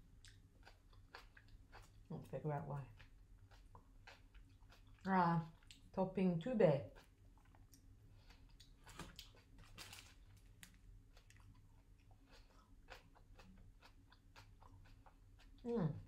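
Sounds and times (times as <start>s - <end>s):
person chewing food: 0.0s - 6.0s, 6.8s - 16.0s.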